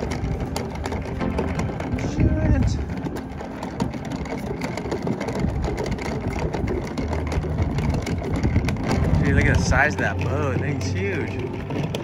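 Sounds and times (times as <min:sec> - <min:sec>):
cooler wheels rumbling on wooden planks: 0:00.0 - 0:12.0.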